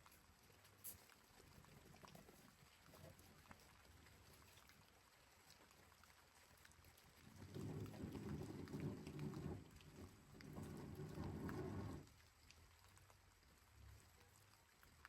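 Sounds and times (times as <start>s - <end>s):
faint rain: 0.0s - 15.0s.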